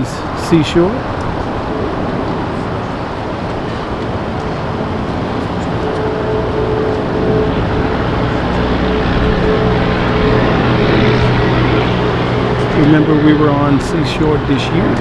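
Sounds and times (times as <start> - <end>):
distant traffic and machinery: 0.0 - 15.0
faint steady tone: 0.0 - 15.0
low hum: 0.0 - 15.0.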